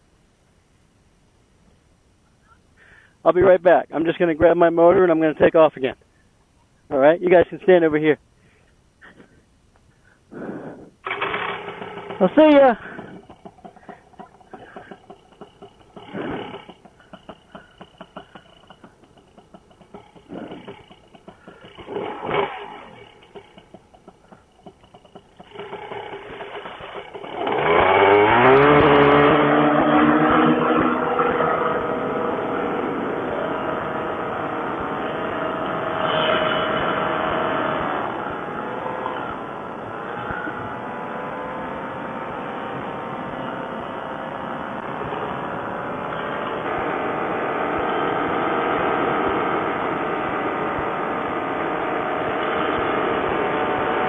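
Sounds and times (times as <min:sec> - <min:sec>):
paramotor engine starting and running: 0:10.5 - 0:54.0.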